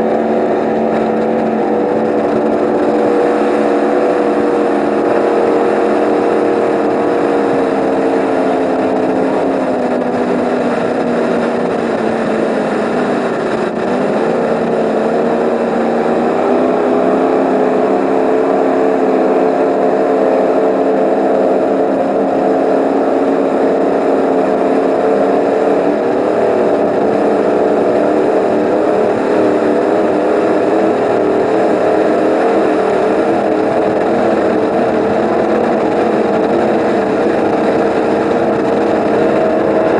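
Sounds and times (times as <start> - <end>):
powerboat engines running hard: 0.0 - 39.9.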